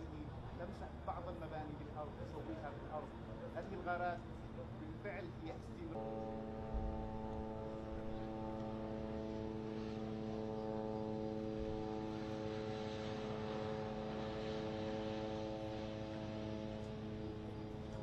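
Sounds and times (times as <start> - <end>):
aircraft engine droning: 0.0 - 18.0.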